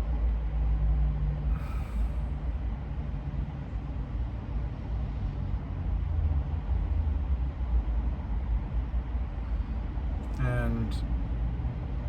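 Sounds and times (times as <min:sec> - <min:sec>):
running vehicle rumble and hiss: 0:00.0 - 0:12.0.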